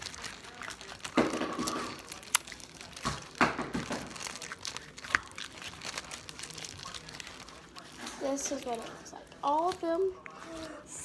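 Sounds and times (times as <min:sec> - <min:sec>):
slime crinkling and squelching: 0:00.0 - 0:11.0.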